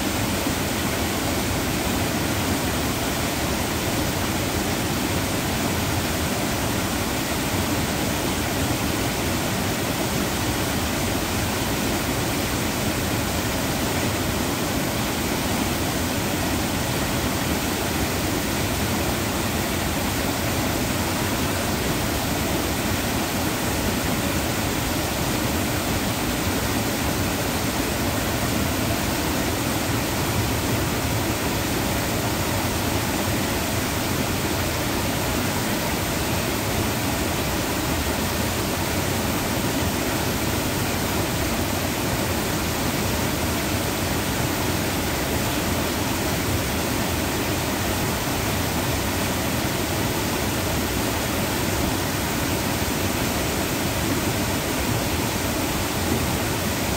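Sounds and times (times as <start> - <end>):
water rushing over dam: 0.0 - 56.9.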